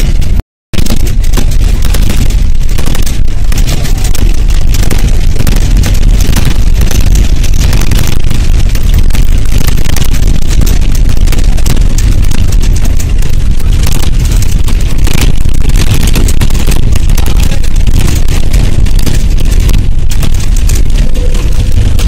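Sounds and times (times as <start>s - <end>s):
bus engine and road rumble: 0.0s - 22.0s
crackling rush: 0.0s - 22.0s.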